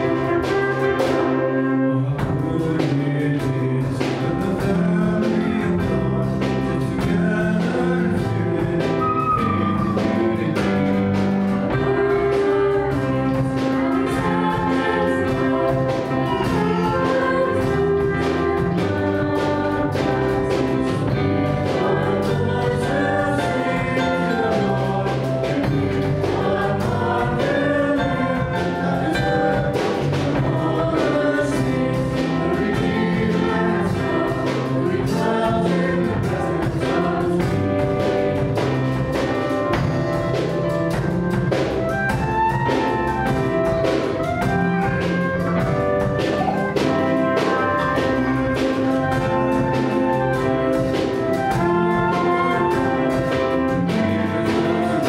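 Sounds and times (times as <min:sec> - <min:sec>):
voices singing together: 0:00.0 - 0:39.8, 0:45.4 - 0:55.0
drum kit: 0:00.0 - 0:55.0
electric bass guitar: 0:00.0 - 0:55.0
keyboard: 0:00.0 - 0:55.0.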